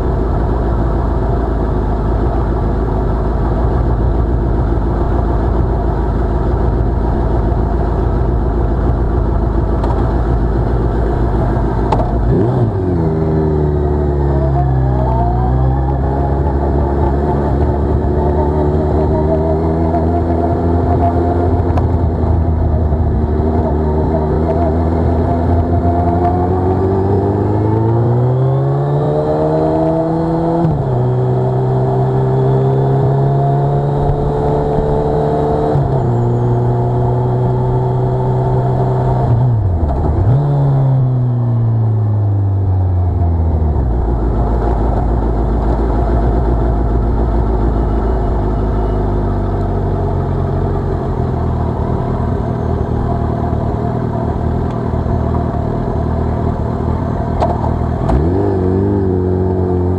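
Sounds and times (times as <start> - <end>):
motorcycle engine revving: 3.6 - 59.9.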